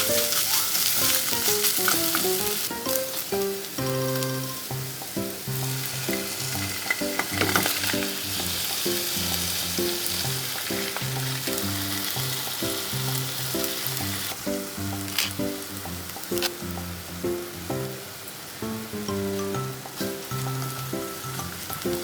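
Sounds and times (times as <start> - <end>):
food sizzling in hot oil: 0.0 - 22.0
light melodic background music: 0.0 - 22.0.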